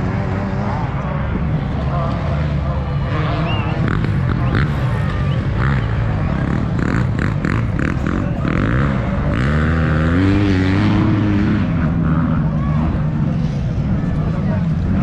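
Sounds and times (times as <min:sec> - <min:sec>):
crowd voices: 0:00.0 - 0:15.0
dirt bike engines running: 0:00.0 - 0:15.0.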